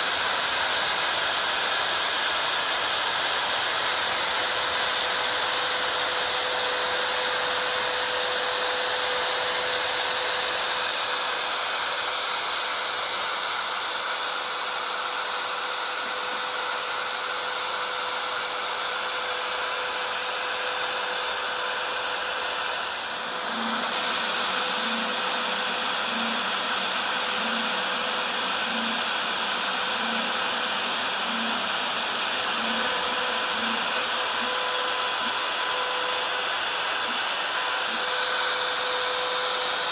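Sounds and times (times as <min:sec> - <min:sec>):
router spindle cutting aluminium: 0:00.0 - 0:39.9.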